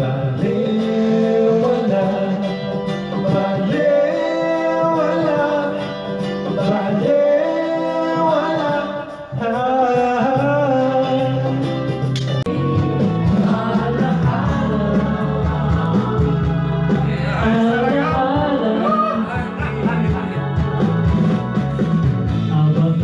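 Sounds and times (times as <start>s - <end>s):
man singing karaoke: 0.0s - 23.0s
recorded backing track: 0.0s - 23.0s.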